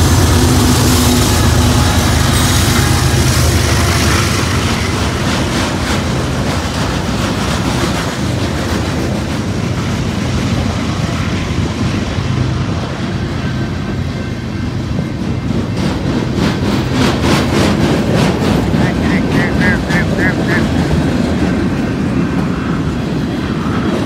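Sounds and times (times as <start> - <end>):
wheels clacking over rail joints: 0.0 - 19.3
freight train rumbling past: 0.0 - 24.0.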